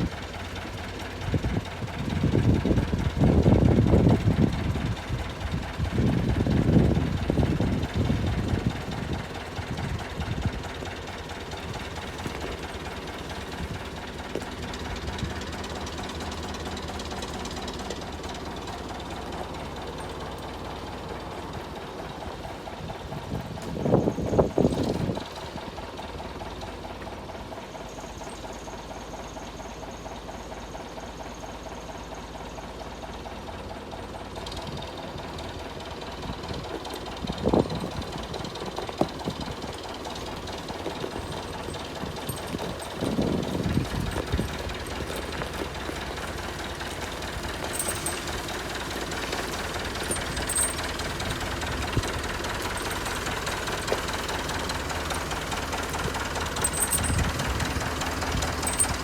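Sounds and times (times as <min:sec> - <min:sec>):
clunks: 0:00.0 - 0:28.8, 0:34.3 - 0:59.0
tractor engine running: 0:00.0 - 0:59.0.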